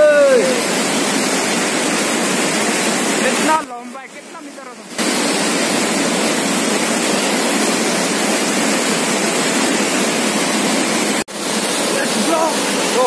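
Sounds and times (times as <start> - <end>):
roar of large waterfall: 0.0 - 13.0.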